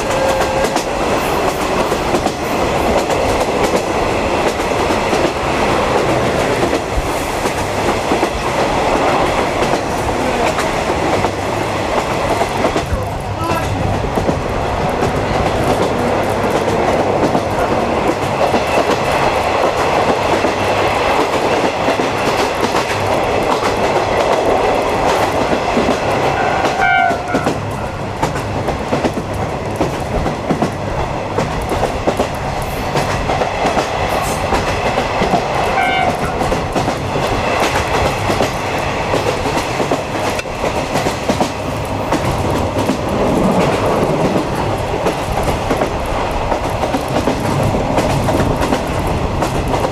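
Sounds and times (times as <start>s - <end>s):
train wheels clacking on rails: 0.0s - 49.9s.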